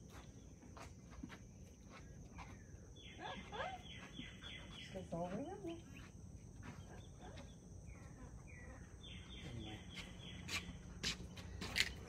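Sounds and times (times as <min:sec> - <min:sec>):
bird chirping: 0:01.6 - 0:12.0.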